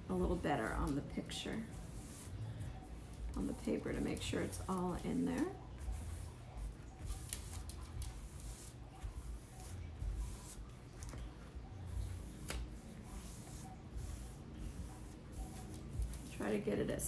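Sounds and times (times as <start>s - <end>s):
hands rubbing paper: 0.1s - 17.0s.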